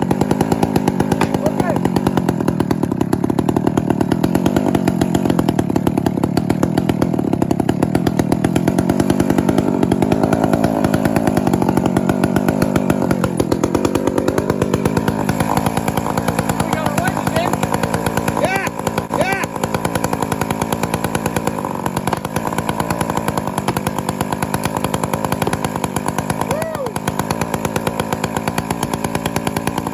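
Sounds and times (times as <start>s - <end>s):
chainsaw cutting wood: 0.0s - 29.9s.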